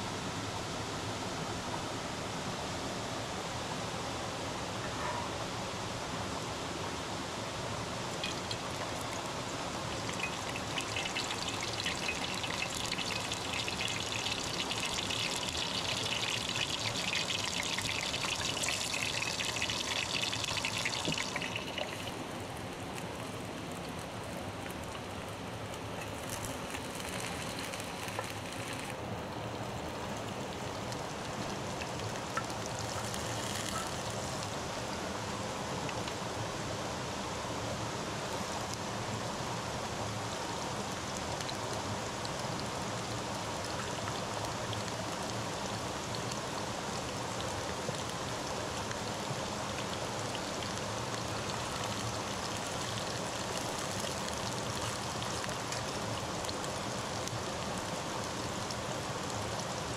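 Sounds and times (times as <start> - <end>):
steady hiss: 0.0 - 59.9
stream flowing over rock: 8.1 - 36.1, 39.3 - 59.9.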